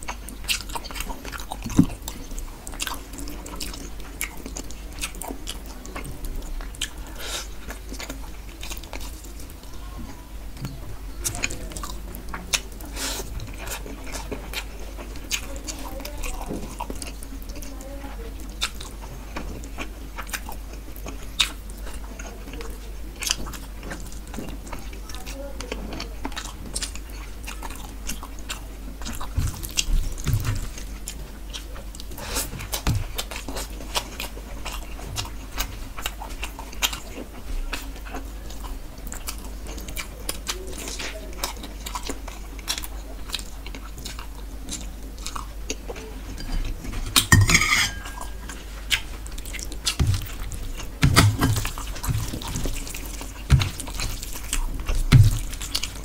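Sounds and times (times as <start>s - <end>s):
close chewing and biting: 0.0s - 56.0s.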